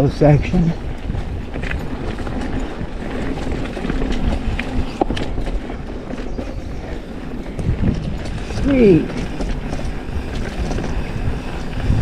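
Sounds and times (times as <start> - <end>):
bike tyres rumbling and rattling: 0.0 - 12.0.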